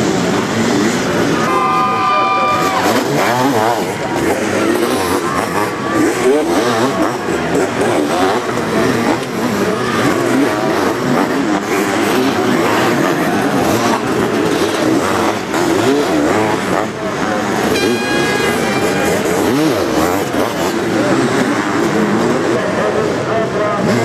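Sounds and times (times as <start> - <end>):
motocross engines revving: 0.0 - 24.0.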